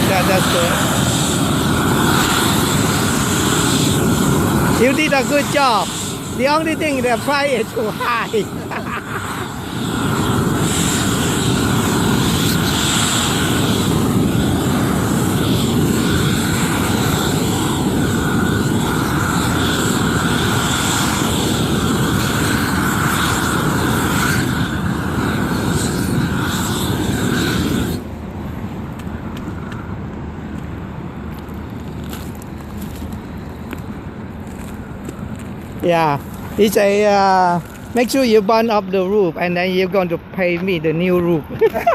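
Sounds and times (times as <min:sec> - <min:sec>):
roofing torch roaring: 0:00.0 - 0:41.9.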